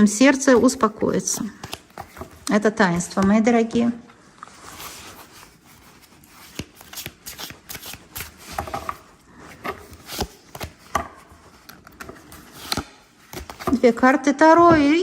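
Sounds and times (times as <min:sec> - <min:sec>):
cards rustling: 0:00.6 - 0:03.2, 0:04.5 - 0:13.9.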